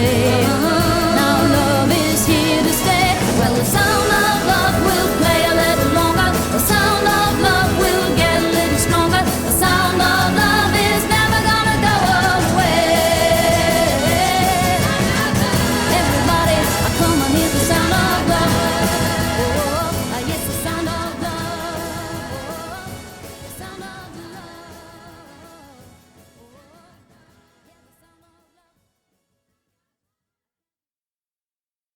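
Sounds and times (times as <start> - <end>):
pop song with band and vocals: 0.0 - 28.2.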